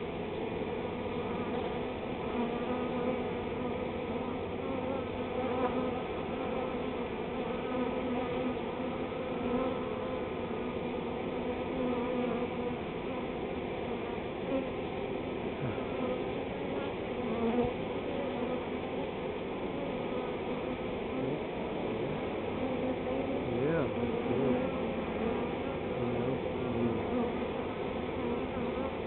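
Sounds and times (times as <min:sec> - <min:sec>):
swarm of bees buzzing: 0:00.0 - 0:29.0.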